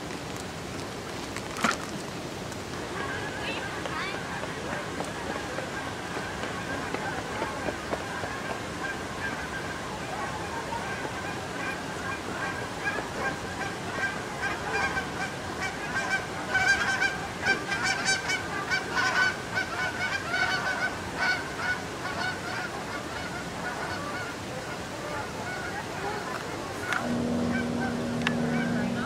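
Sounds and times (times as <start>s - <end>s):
flock of birds honking: 3.0s - 29.0s.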